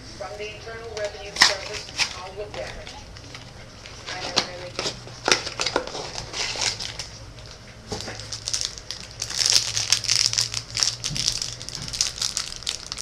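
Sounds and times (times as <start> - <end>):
low steady hum: 0.0 - 13.0
plastic crinkling and rustling: 1.4 - 13.0.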